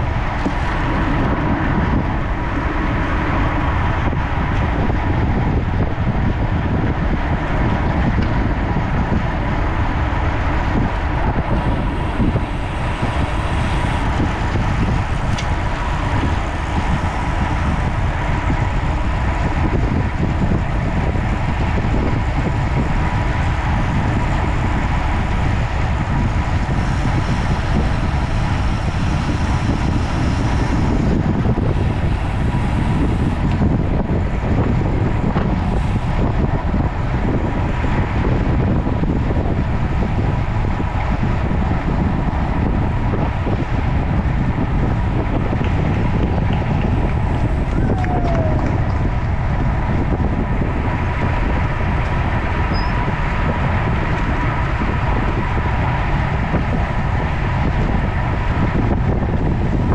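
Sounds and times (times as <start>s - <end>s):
road and tyre noise: 0.0s - 59.9s
wind rushing over microphone: 0.0s - 59.9s.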